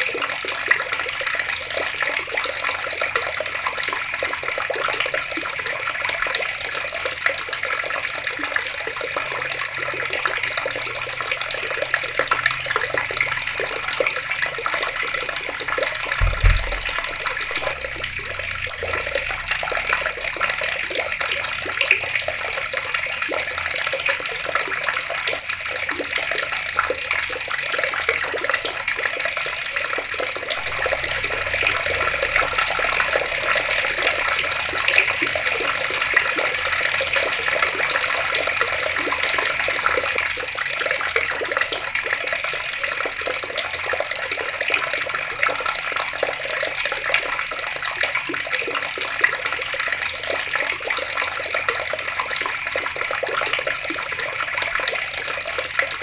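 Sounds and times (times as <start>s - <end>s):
water running from tap and splashing: 0.0s - 56.0s.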